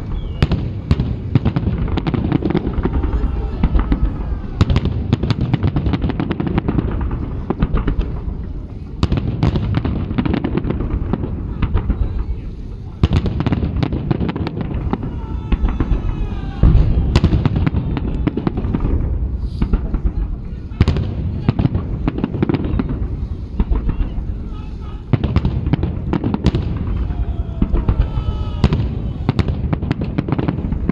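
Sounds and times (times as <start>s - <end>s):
firework shells booming: 0.0s - 30.9s
fireworks crackling: 0.0s - 30.9s.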